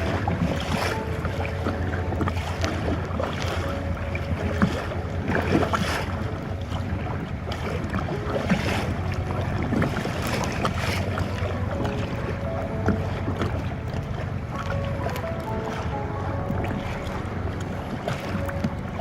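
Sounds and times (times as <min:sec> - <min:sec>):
kayak paddle splashing: 0:00.0 - 0:19.0
wind noise on microphone: 0:00.0 - 0:19.0.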